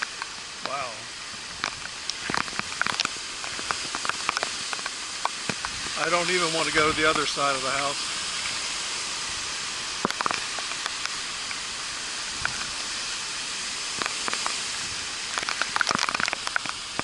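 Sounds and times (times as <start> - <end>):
strong wind and rain: 0.0 - 17.0.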